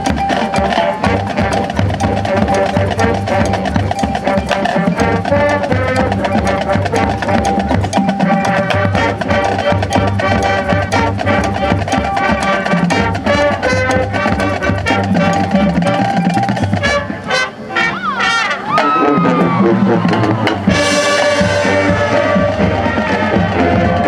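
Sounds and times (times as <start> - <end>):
brass holding chords: 0.0 - 24.0
marching percussion rhythm: 0.0 - 24.0.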